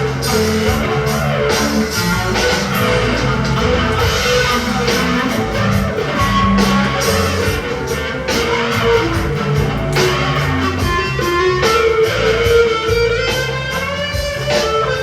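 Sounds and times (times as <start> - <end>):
fuzz electric guitar solo: 0.0 - 15.0.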